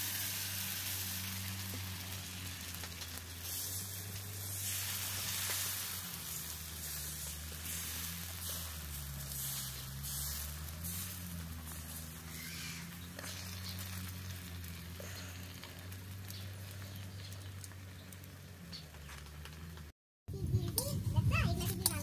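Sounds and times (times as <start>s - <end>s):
batter sizzling in a pan: 0.0s - 18.7s.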